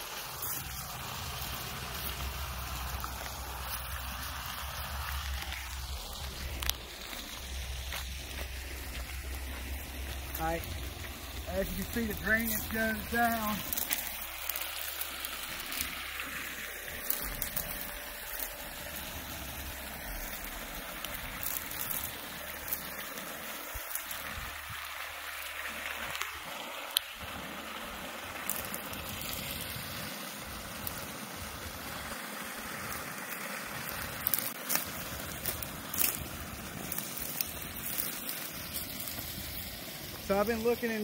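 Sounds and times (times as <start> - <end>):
water rushing from drain pipe: 0.0 - 41.0.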